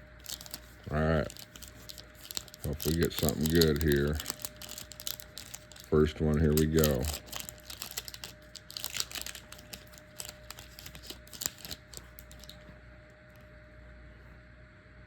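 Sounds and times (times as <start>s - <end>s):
trading card pack being opened: 0.2s - 12.6s.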